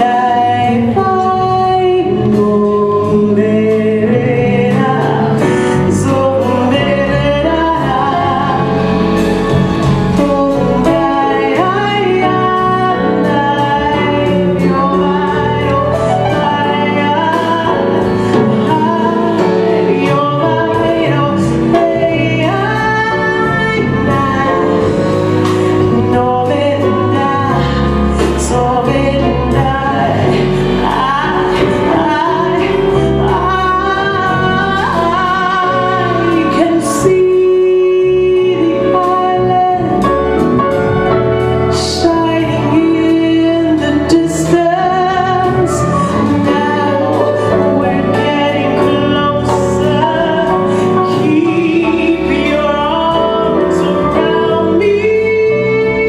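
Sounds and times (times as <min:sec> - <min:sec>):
electric bass guitar: 0:00.0 - 0:56.0
woman singing: 0:00.0 - 0:56.0
drums with cymbals: 0:02.1 - 0:55.2.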